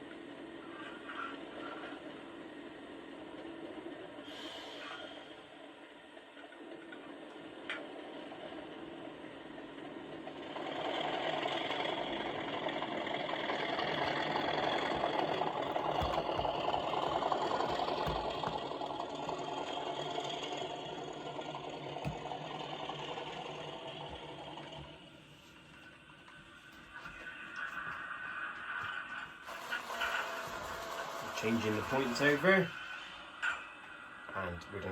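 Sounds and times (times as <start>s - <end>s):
diesel engine through small speaker: 0.0s - 5.8s, 8.2s - 33.2s.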